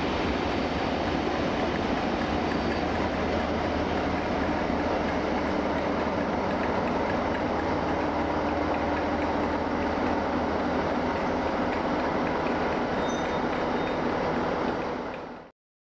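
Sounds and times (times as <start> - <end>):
diesel locomotive engine rumble: 0.0 - 15.5.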